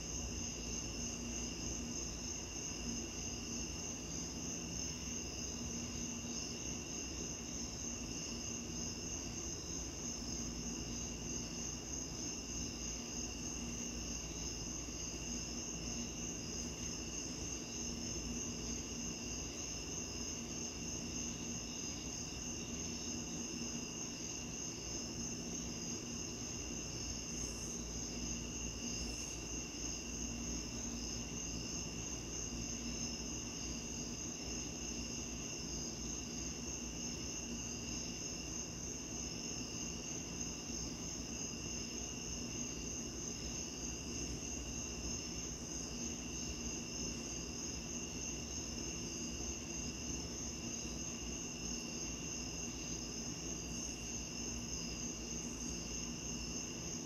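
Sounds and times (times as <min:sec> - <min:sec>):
crickets trilling: 0:00.0 - 0:57.0
low background noise: 0:00.0 - 0:57.0.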